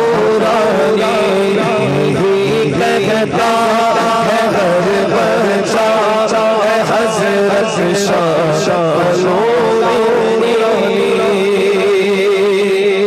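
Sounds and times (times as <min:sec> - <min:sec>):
man singing through a microphone: 0:00.0 - 0:13.0.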